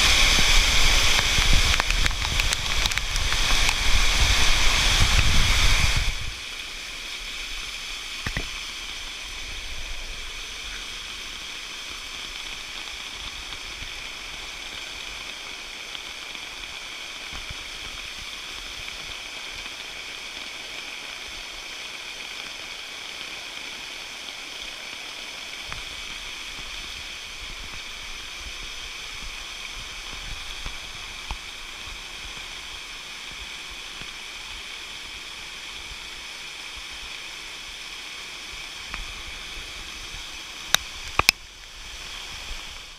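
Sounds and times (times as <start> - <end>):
water rushing: 0.0 - 42.9.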